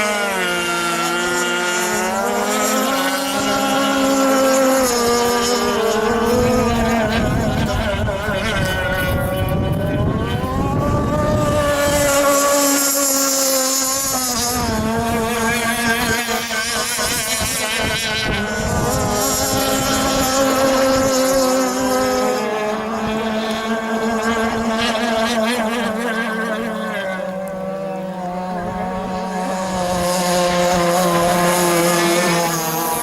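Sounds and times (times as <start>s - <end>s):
model boat engines running: 0.0s - 33.0s.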